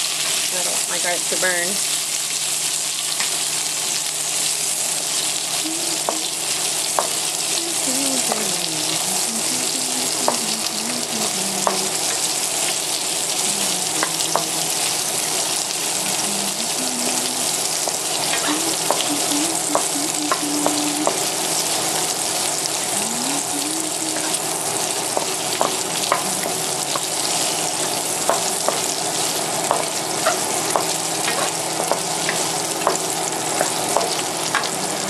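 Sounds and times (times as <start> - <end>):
vegetables sizzling in hot oil: 0.0 - 35.0.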